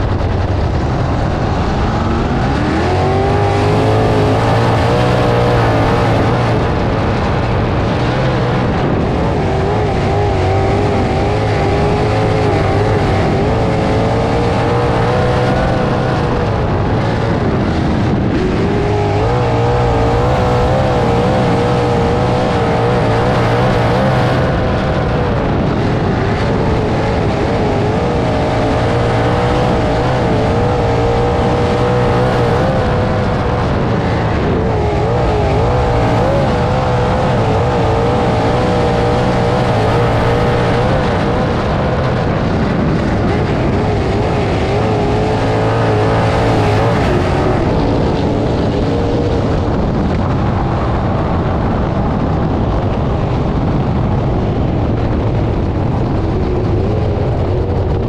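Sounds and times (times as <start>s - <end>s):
heavy wind rush: 0.0s - 58.0s
race car engine at full speed: 0.0s - 58.0s.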